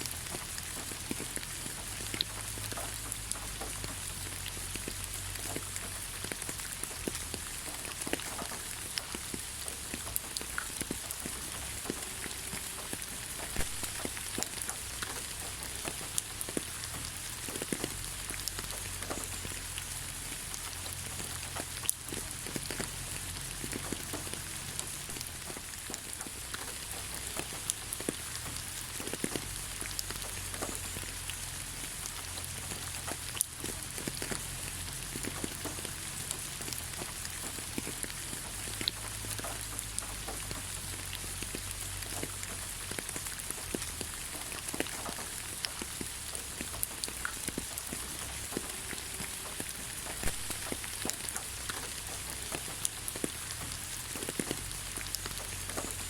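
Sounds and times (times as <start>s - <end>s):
drops ticking and splashing: 0.0s - 56.0s
rain falling on ground: 0.0s - 56.0s.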